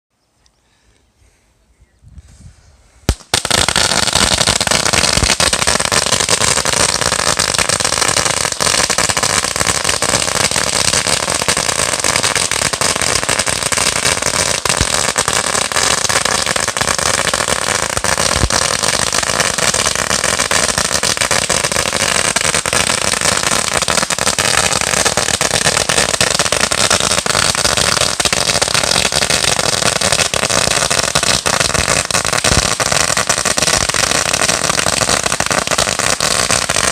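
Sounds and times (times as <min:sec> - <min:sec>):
firecracker strip crackling: 0:03.1 - 0:36.9.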